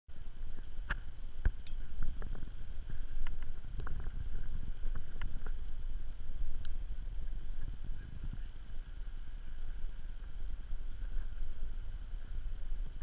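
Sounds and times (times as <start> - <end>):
wind buffeting microphone: 0.2 - 13.0.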